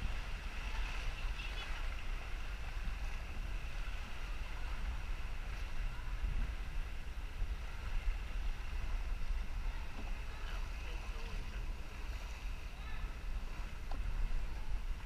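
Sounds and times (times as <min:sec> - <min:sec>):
motorboat engine rumble: 0:00.0 - 0:15.0
water noise: 0:00.0 - 0:15.0
wind noise: 0:00.0 - 0:15.0.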